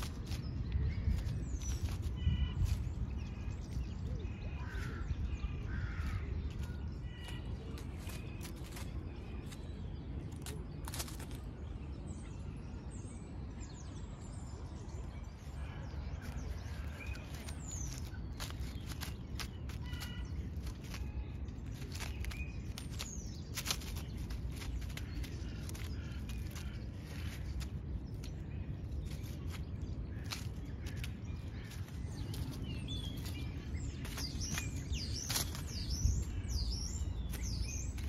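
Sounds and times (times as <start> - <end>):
dry leaves crackling: 0.0 - 12.6, 13.6 - 38.0
birds calling: 0.0 - 38.0
steady low rumble: 0.0 - 38.0.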